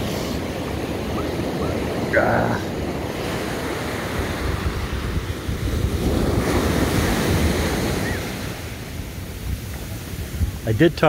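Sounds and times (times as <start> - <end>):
small waves washing over sand: 0.0 - 11.0
wind buffeting microphone: 0.0 - 11.0.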